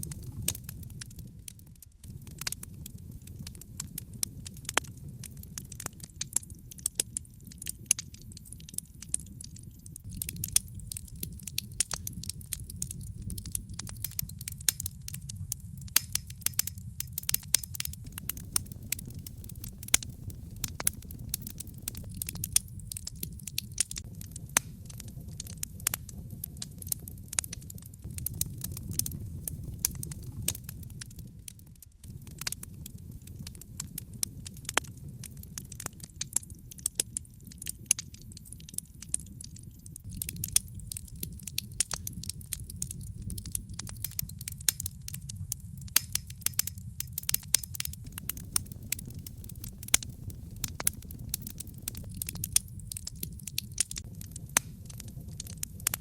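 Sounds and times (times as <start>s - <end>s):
logs crackling in a fireplace: 0.0s - 56.0s
low rumble of flames: 0.0s - 56.0s.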